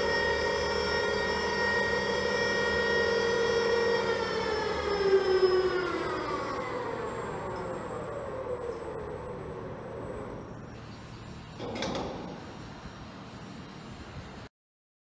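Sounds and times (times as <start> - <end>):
electric drive whining: 0.0 - 14.5.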